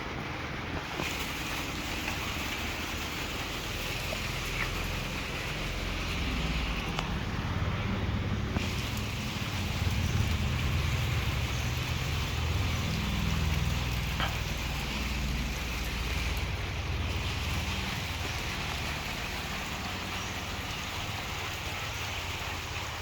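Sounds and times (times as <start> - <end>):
low uneven rumble: 0.0 - 23.0
steady rain: 0.0 - 23.0.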